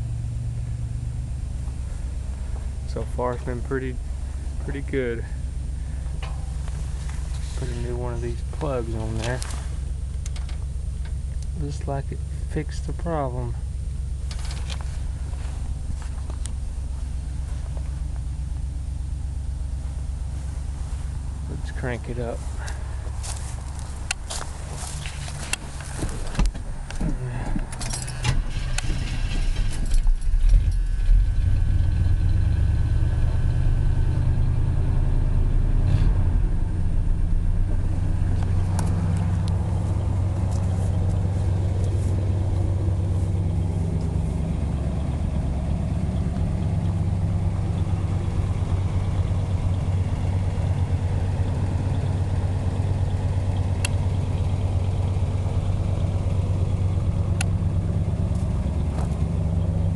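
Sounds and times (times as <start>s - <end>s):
truck engine idling: 0.0s - 59.9s
truck engine starting: 0.0s - 59.9s.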